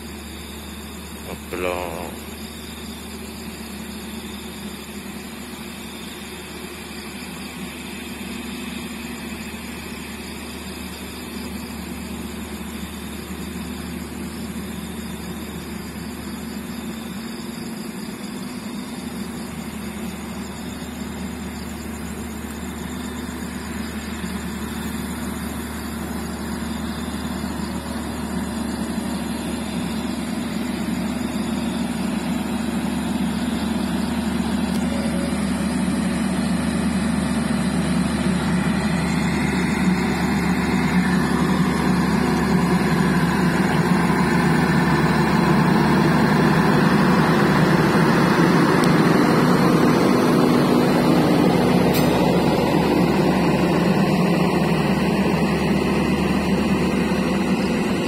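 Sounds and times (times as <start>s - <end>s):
locomotive diesel engine running: 0.0s - 58.0s.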